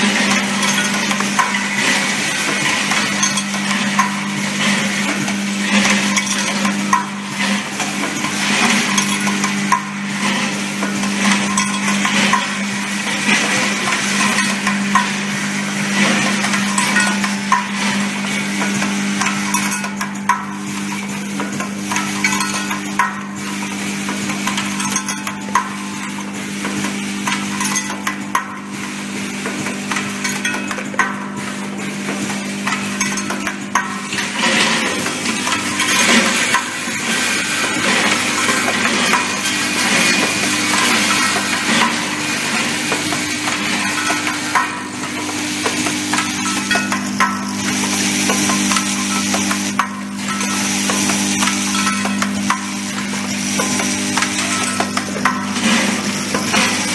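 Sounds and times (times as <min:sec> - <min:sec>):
metal parts rattling and clinking: 0:00.0 - 0:28.4, 0:29.4 - 0:56.9
machine humming: 0:00.0 - 0:56.9.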